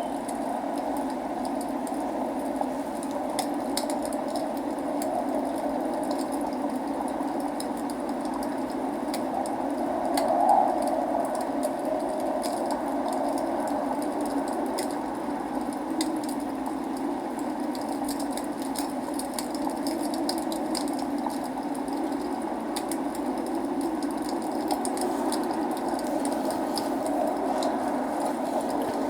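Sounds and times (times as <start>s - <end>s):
fire popping: 0.0s - 29.0s
log fire crackling: 0.0s - 29.0s
rain: 0.0s - 29.0s.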